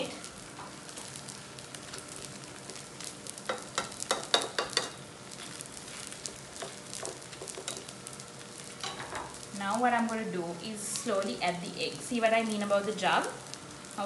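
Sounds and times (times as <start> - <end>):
oil sizzling in pan: 0.0 - 14.0.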